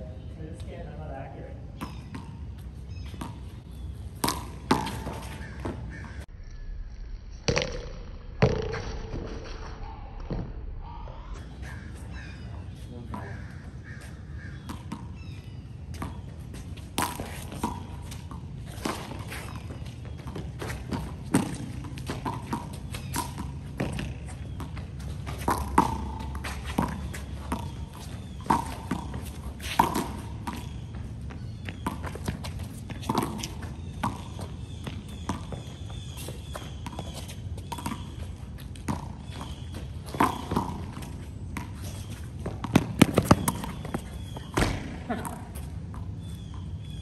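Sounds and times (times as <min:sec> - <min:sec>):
footsteps on court: 0:01.8 - 0:06.2, 0:11.4 - 0:46.8.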